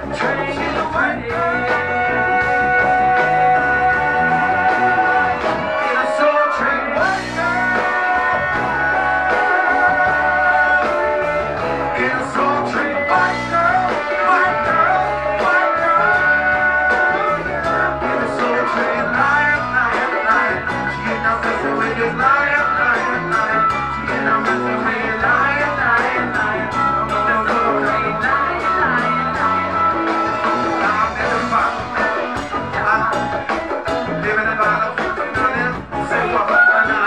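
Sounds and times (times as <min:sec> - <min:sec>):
live band music: 0:00.0 - 0:37.0
man singing: 0:00.0 - 0:37.0.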